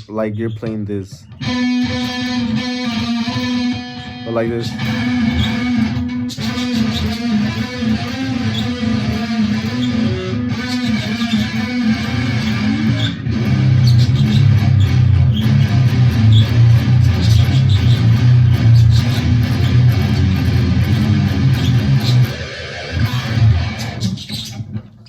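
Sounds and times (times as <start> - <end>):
electric guitar heavy riff: 0.0 - 24.9.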